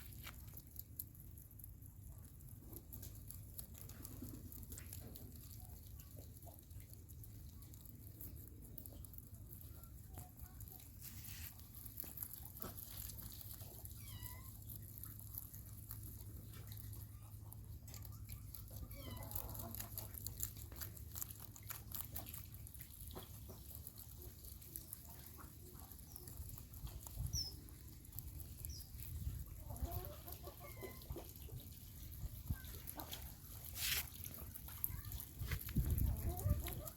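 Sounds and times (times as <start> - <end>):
rabbits nibbling grass: 0.0 - 36.9.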